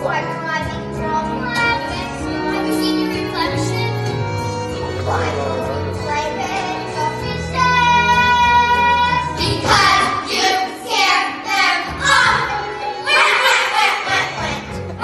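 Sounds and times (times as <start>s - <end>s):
instrumental accompaniment: 0.0s - 15.0s
children singing: 1.2s - 15.0s.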